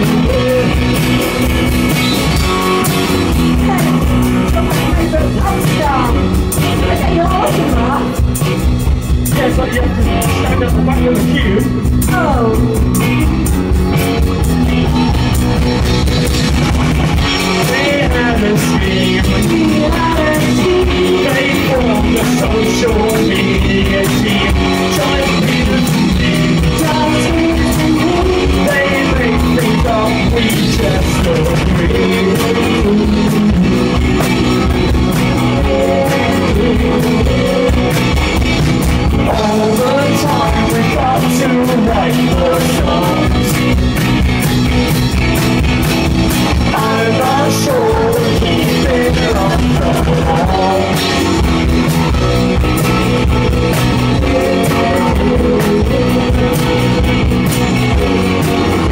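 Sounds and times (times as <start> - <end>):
person singing: 0.0 - 1.7, 2.8 - 8.6, 9.2 - 13.3, 17.2 - 43.9, 46.5 - 58.9
drums: 0.0 - 58.9
electric guitar: 0.0 - 58.9.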